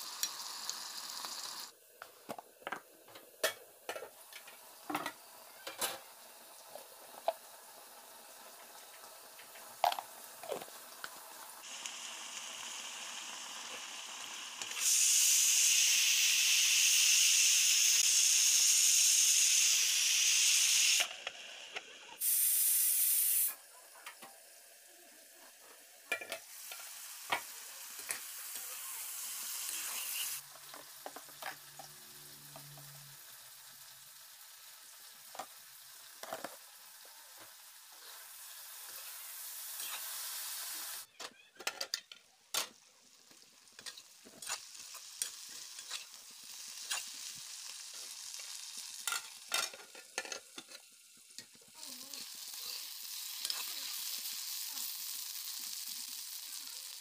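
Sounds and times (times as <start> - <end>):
vegetables sizzling in hot oil: 0.0 - 57.0.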